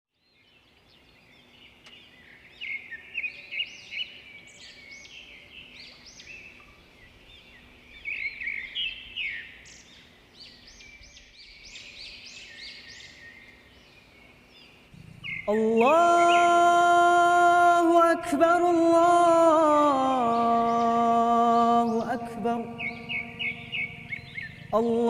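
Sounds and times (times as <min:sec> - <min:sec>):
small birds chirping: 0:00.2 - 0:25.0
faint low hum: 0:00.5 - 0:25.0.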